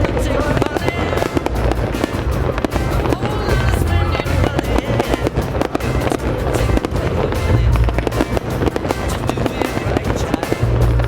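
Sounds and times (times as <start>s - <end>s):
fireworks cracking and banging: 0.0s - 11.0s
loud music with heavy bass: 0.0s - 11.0s.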